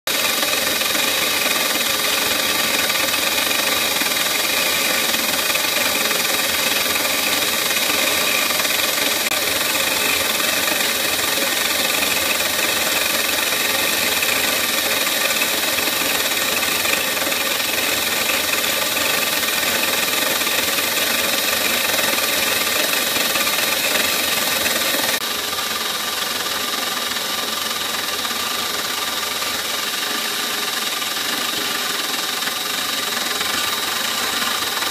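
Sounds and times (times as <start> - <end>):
milling machine cutting plastic: 0.1 - 34.9.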